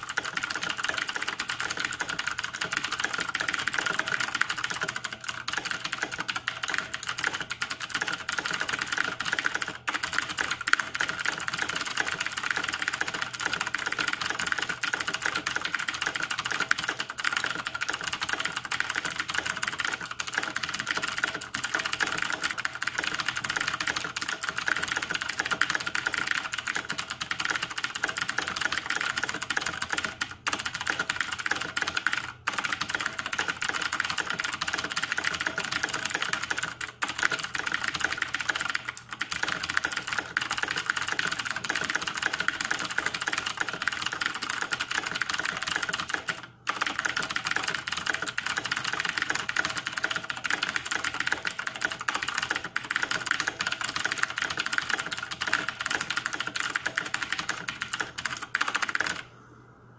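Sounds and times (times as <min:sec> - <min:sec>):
fast keyboard typing: 0:00.0 - 0:59.3.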